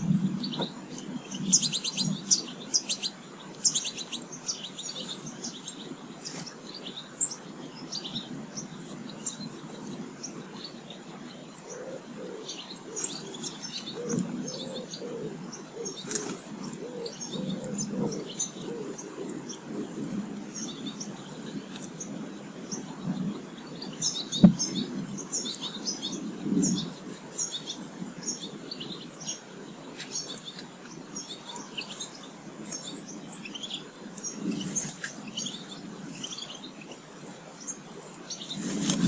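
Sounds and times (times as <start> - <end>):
small birds chirping and twittering: 0.0 - 39.0.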